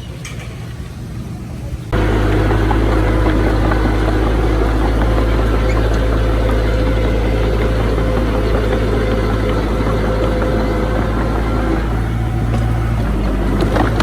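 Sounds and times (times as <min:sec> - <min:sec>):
constant hum: 0:00.0 - 0:14.0
heavy diesel engine running: 0:00.0 - 0:14.0.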